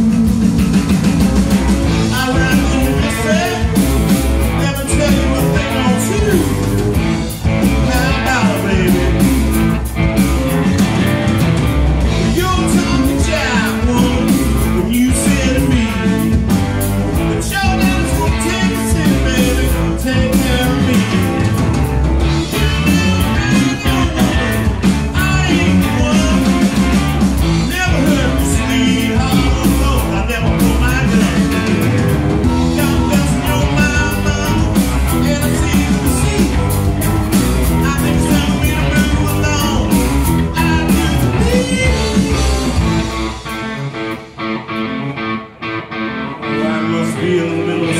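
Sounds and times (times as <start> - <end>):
bass guitar: 0.0 - 47.9
drums: 0.0 - 47.9
electric guitars: 0.0 - 47.9
lead singer singing: 1.9 - 44.0, 46.4 - 47.9.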